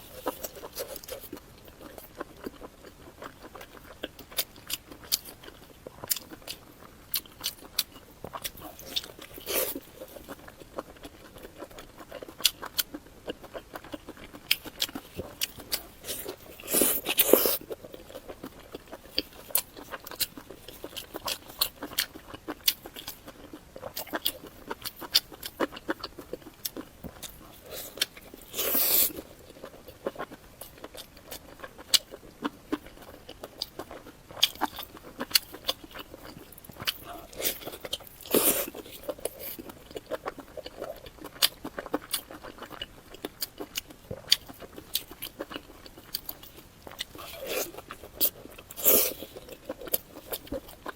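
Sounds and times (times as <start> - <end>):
person chewing with mouth clicks: 0.0 - 50.9.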